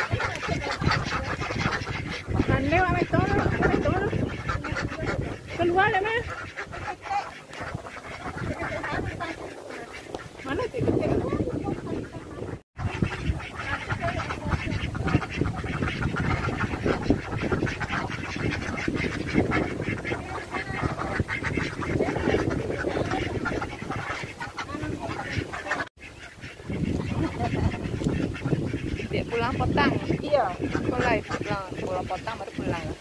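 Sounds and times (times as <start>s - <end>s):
ducks quacking: 0.0s - 33.0s.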